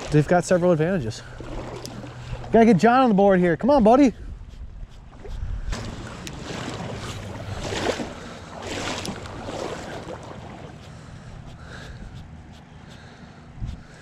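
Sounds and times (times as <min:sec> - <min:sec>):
water sloshing in a stream: 0:00.0 - 0:14.0.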